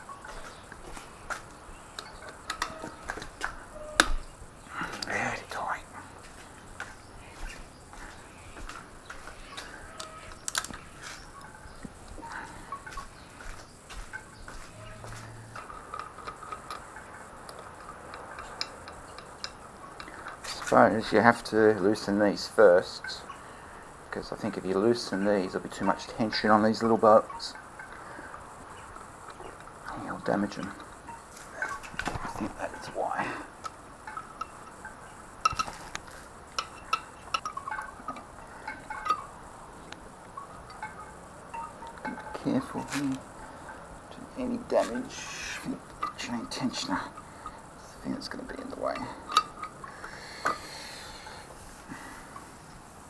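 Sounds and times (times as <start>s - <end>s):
hand tools and metal parts clicking: 0.0s - 4.2s, 4.8s - 52.8s.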